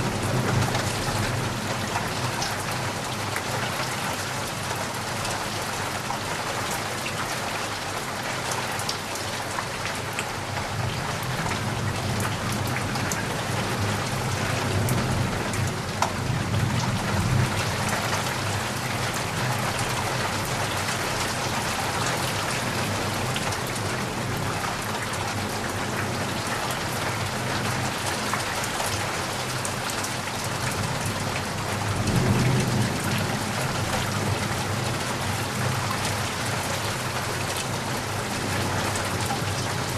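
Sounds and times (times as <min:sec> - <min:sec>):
heavy rain pouring: 0:00.0 - 0:39.9
raindrops pattering: 0:00.0 - 0:39.9.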